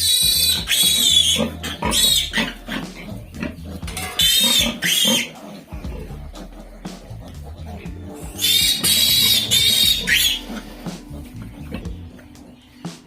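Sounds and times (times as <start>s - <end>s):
piglet squealing: 0.0s - 12.8s.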